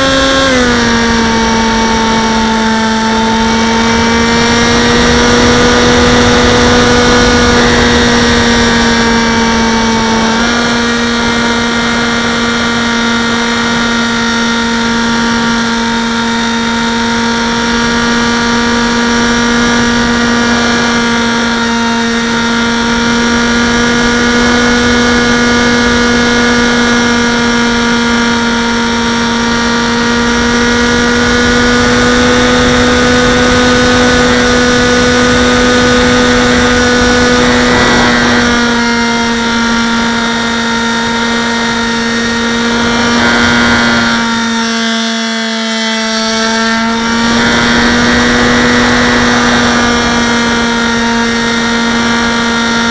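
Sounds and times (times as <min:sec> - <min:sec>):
electric motor propeller whine: 0:00.0 - 0:52.9.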